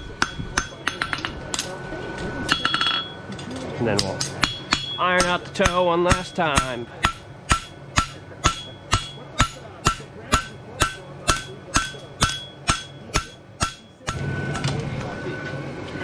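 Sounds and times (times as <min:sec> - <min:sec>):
hammer striking metal on anvil: 0:00.0 - 0:01.7, 0:02.5 - 0:03.2, 0:04.2 - 0:14.7.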